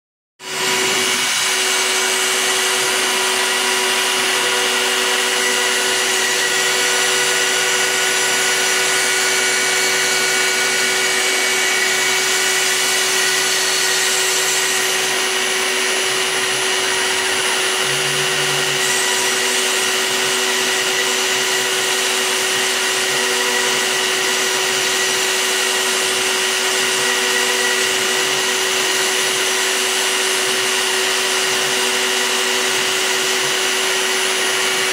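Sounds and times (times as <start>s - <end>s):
end mill cutting wood: 0.4s - 34.9s
router spindle motor whine: 0.4s - 34.9s.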